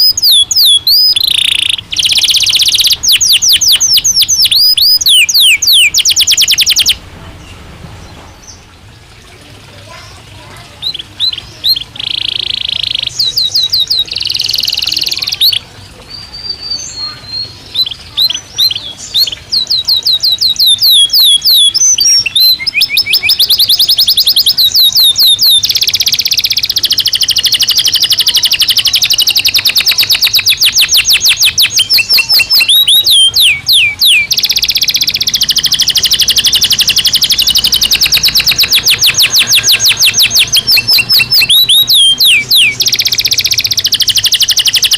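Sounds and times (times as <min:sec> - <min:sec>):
canary singing trills: 0:00.0 - 0:09.0, 0:09.7 - 0:44.9.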